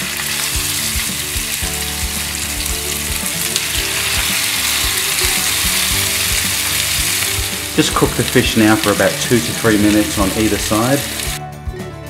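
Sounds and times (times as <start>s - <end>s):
fish sizzling in a pan: 0.0s - 11.4s.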